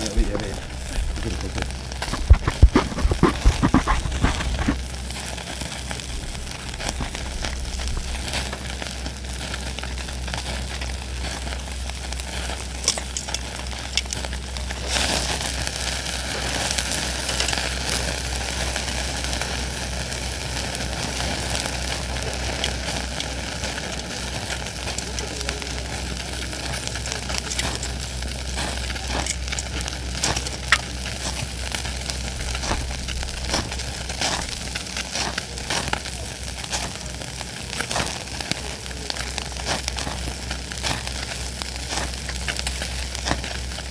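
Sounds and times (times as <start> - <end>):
crackles and pops: 0.0 - 43.9
food sizzling on cookware: 0.0 - 43.9.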